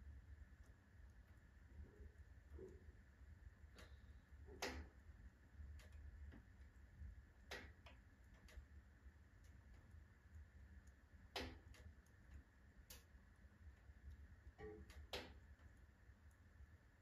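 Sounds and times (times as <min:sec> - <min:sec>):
firewood crackling and popping: 0:00.4 - 0:17.0.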